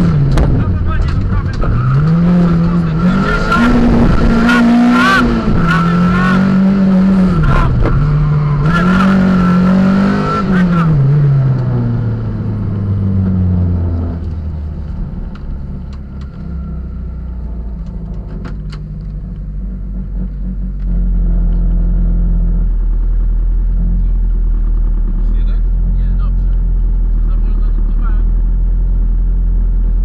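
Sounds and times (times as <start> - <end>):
steady low rumble: 0.0 - 5.7, 10.6 - 30.0
rally car engine running: 0.0 - 30.0.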